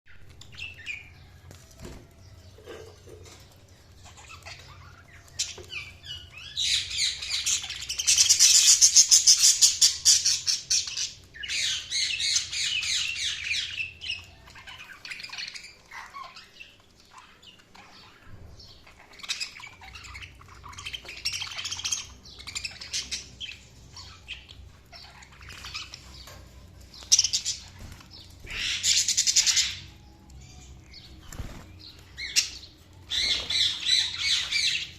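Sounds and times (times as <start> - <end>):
budgerigars chirping and chattering: 2.5 - 34.9.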